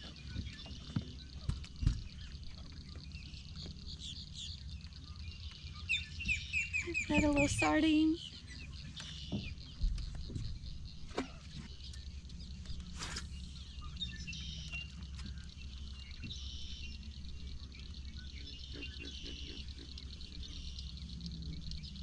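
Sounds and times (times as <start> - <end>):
birds and insects chirping: 0.0 - 22.0.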